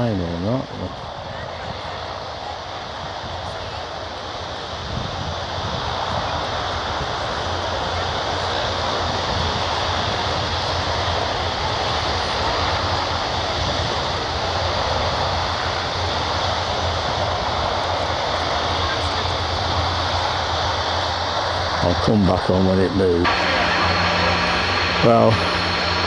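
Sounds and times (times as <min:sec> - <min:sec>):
jet airliner engines running: 0:00.0 - 0:26.0.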